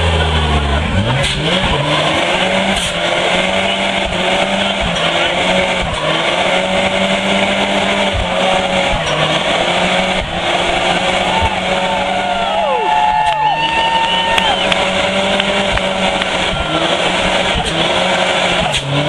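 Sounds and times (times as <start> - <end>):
car engine at high revs: 0.0 - 19.0
tyres squealing on pavement: 0.0 - 19.0.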